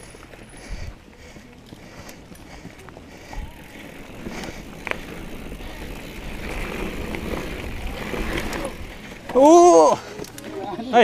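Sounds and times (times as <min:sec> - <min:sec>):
bike clicks and rattles: 0:00.0 - 0:11.0
bike tyres on dirt trail: 0:00.0 - 0:11.0.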